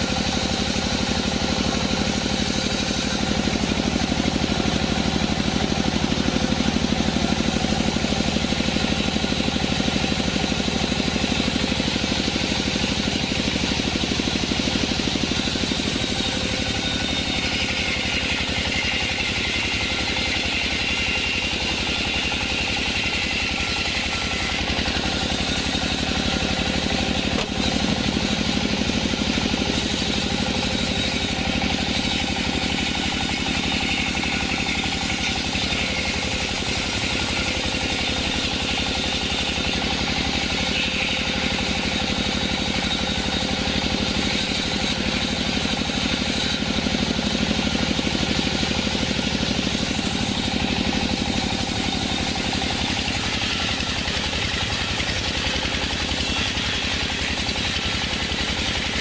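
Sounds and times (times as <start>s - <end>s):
sawmill machinery hum: 0.0s - 59.0s.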